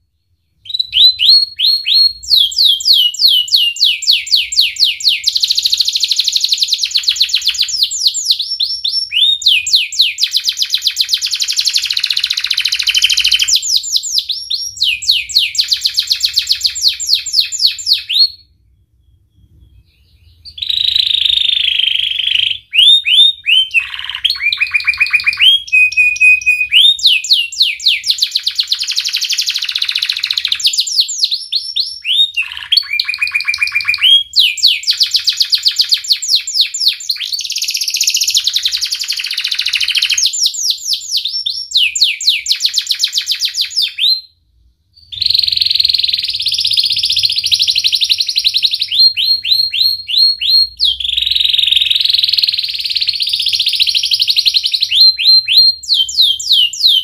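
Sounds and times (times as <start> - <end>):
canary singing trills: 0.0 - 44.2, 45.0 - 57.0.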